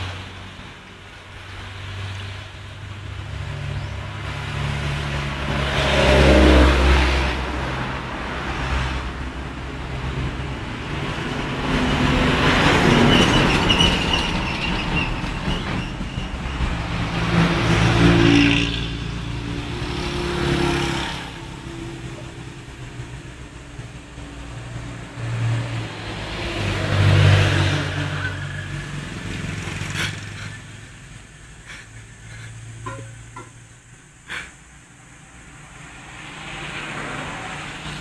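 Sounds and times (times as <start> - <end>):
passing vehicle engines: 0.0 - 38.0.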